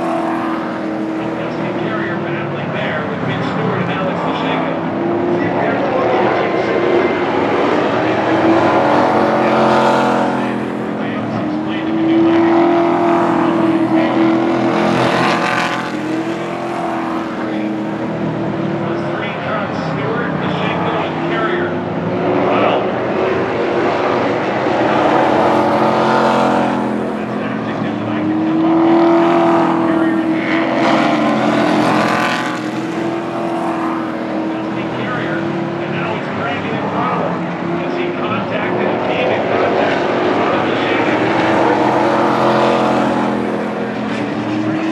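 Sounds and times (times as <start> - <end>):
race truck engines passing: 0.0 - 44.9.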